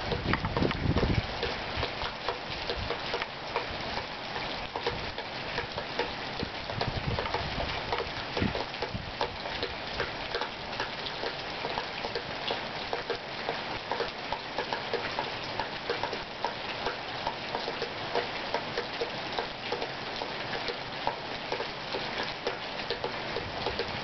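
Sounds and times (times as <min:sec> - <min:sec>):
steady rain falling: 0:00.0 - 0:24.0
drips tapping on hard surfaces: 0:00.1 - 0:04.1, 0:04.7 - 0:24.0.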